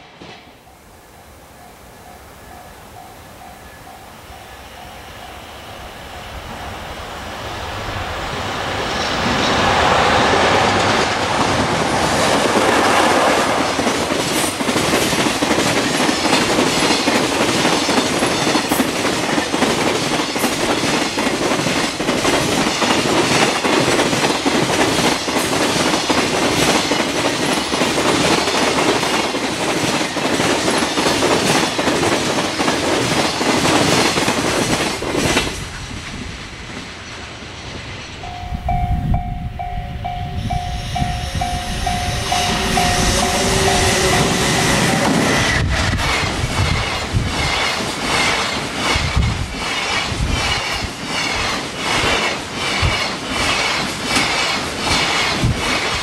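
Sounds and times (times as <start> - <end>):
locomotive passing: 0.0 - 56.0.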